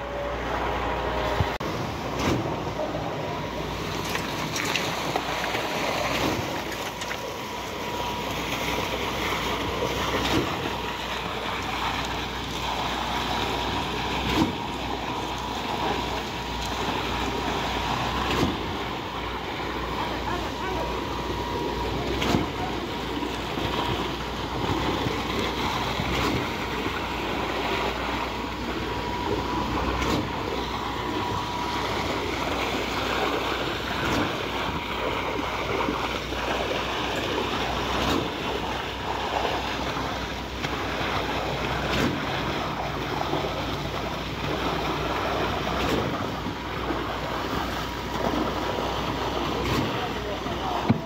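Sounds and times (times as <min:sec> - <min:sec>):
concrete pump running: 0:00.0 - 0:51.0
wet concrete pouring and splashing: 0:01.7 - 0:51.0.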